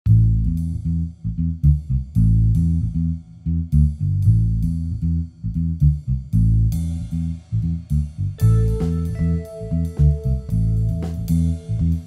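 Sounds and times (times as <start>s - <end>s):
plucked bass guitar notes: 0.1s - 12.0s.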